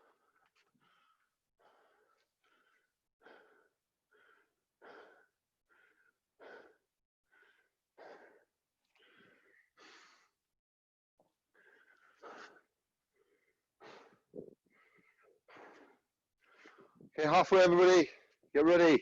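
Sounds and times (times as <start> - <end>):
person breathing hard: 0.0 - 10.4, 11.5 - 17.1.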